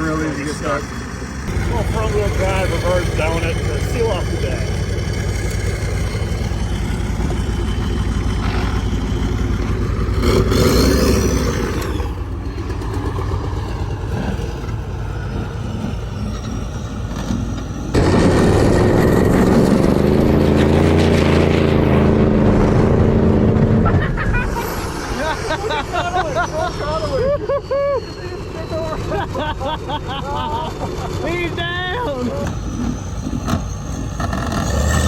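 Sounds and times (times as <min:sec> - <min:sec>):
diesel truck engine revving hard: 0:00.0 - 0:35.0.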